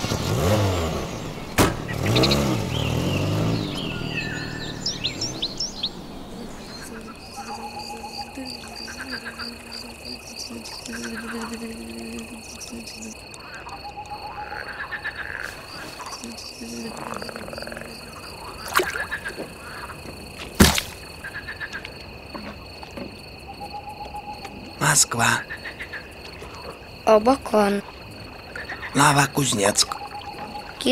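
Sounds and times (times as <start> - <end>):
crickets chirring: 0.0 - 30.9
frogs croaking in trills: 0.0 - 30.9.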